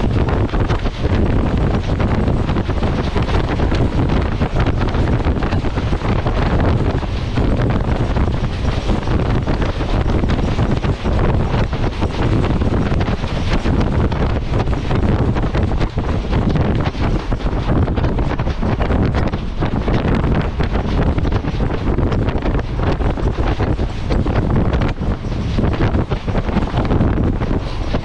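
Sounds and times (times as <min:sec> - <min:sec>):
moving train rumble: 0:00.0 - 0:28.0
wind buffeting microphone: 0:00.0 - 0:28.0.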